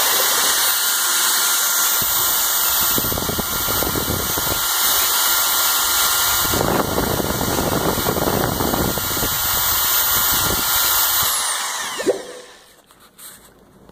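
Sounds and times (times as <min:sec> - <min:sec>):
electric paddle mixer whining: 0:00.0 - 0:12.8.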